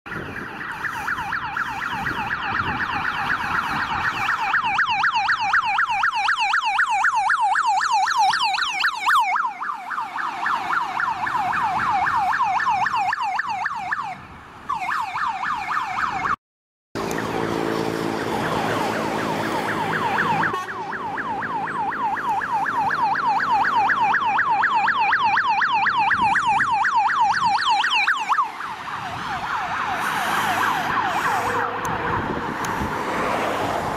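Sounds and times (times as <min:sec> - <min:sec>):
electronic sirens yelping: 0:00.1 - 0:16.4, 0:17.0 - 0:33.9.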